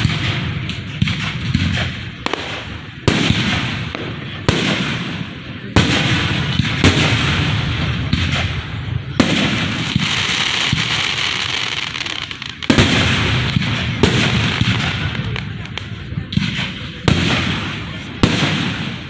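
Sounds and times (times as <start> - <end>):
fireworks bangs: 0.0 - 19.0
fireworks crackle and rumble: 0.0 - 19.0.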